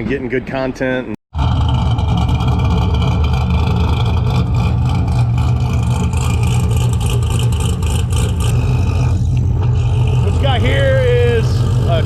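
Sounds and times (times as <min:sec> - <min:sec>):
car engine idling lumpily: 0:01.4 - 0:12.0.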